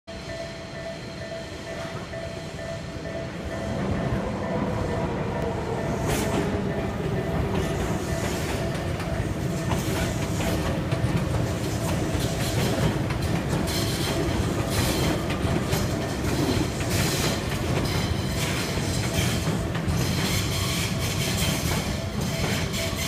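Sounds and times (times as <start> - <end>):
train rumble: 0.1 - 23.0.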